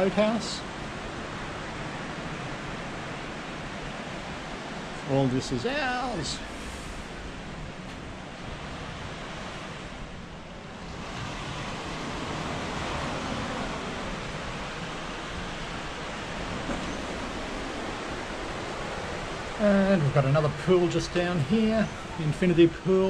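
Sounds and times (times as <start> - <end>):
surf washing onto beach: 0.0 - 23.0.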